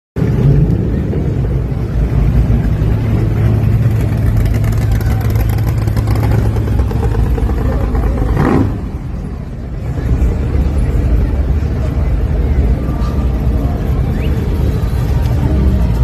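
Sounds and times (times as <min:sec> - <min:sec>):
car engine idling: 0:00.8 - 0:16.0.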